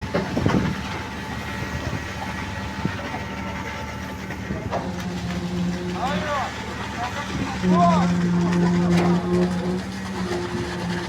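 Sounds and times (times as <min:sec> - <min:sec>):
construction machinery humming: 0:00.0 - 0:11.0.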